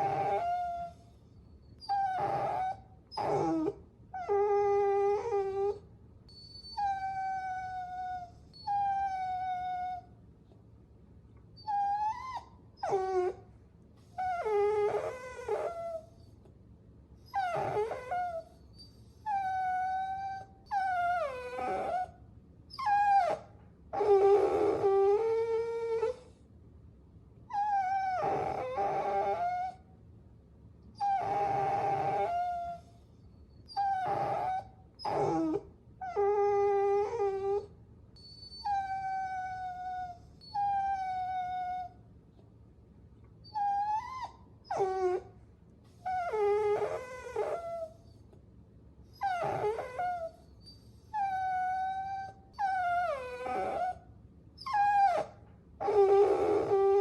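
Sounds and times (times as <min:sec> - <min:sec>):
puppy whining: 0:00.0 - 0:10.2, 0:11.4 - 0:16.6, 0:17.2 - 0:26.4, 0:27.5 - 0:29.9, 0:30.9 - 0:42.4, 0:43.2 - 0:48.4, 0:49.0 - 0:57.0.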